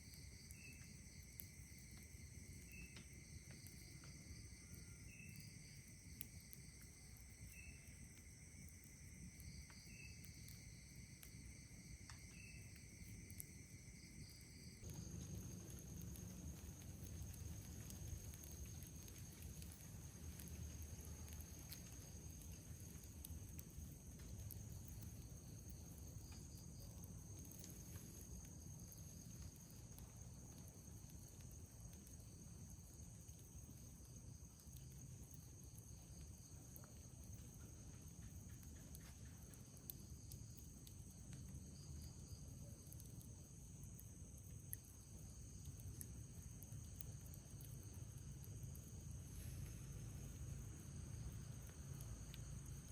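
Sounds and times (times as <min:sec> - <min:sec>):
campfire popping: 0:00.0 - 0:52.9
insects trilling: 0:00.0 - 0:52.9.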